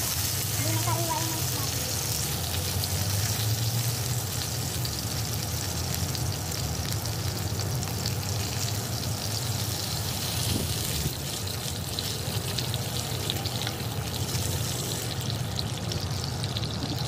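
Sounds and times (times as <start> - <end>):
meat sizzling in oil: 0.0 - 17.0.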